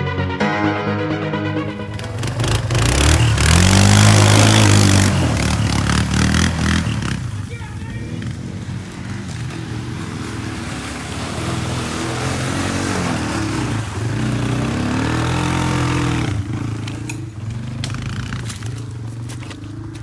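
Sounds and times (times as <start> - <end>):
atv engine revving: 1.9 - 20.0.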